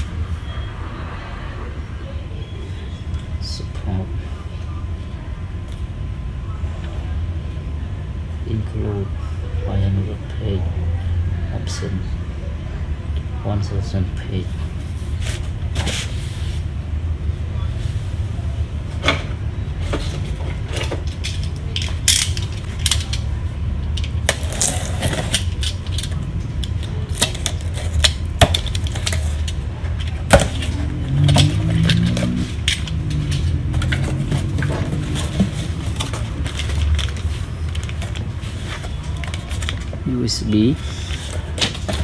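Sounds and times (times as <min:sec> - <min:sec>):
low background hum: 0:00.0 - 0:42.0.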